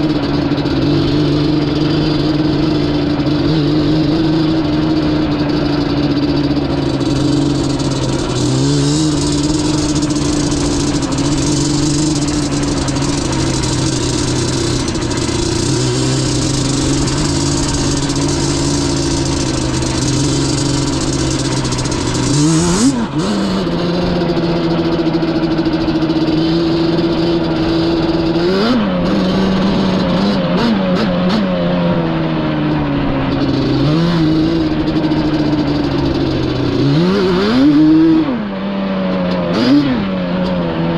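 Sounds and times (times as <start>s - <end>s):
two-stroke atv engine revving: 0.0s - 40.9s.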